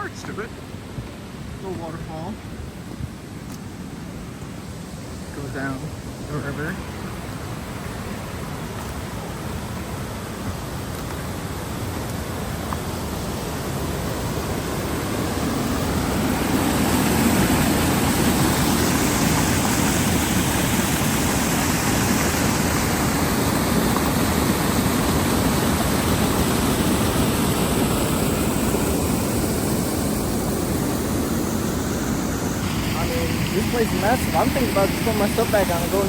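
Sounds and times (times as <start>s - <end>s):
waterfall rushing water: 0.0s - 36.0s.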